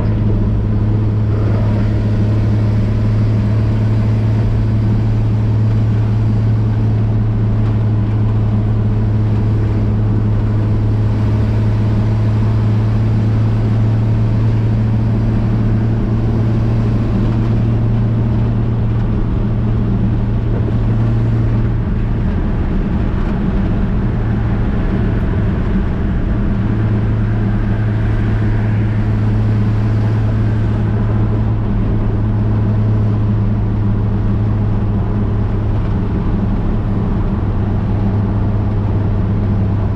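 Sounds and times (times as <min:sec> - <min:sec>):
pickup engine droning inside cab: 0:00.0 - 0:39.9
road noise: 0:00.0 - 0:39.9.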